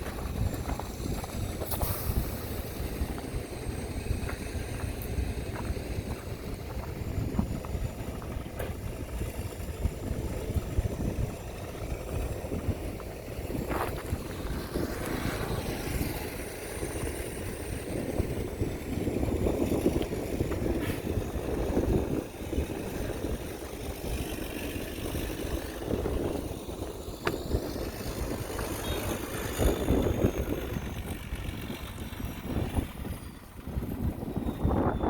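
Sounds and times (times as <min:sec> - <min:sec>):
heavy machinery engine rumble: 0:00.0 - 0:35.0
machinery rattle: 0:00.0 - 0:35.0.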